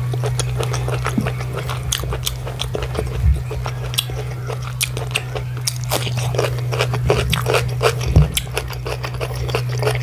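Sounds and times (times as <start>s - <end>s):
crisp chewing crunches: 0.0s - 10.0s
steady low hum: 0.0s - 10.0s.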